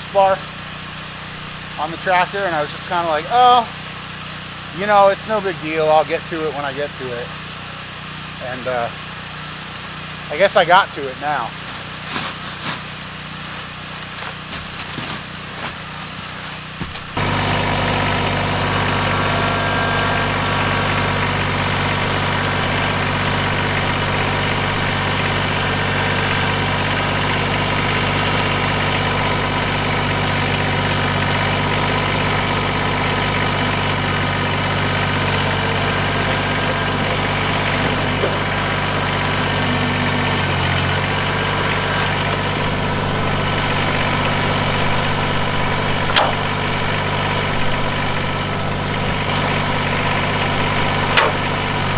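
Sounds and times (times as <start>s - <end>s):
diesel tractor engine idling: 0.0s - 51.9s.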